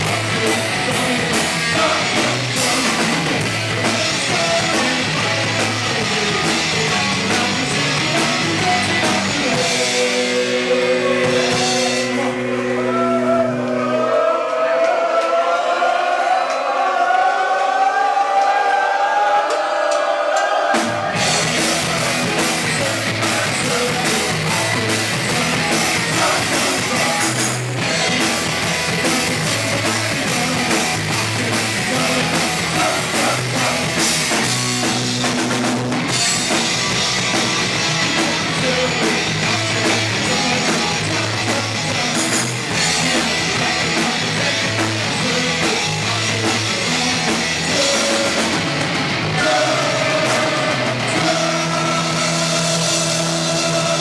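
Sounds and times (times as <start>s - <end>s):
punk rock band playing: 0.0s - 14.4s, 20.6s - 54.0s.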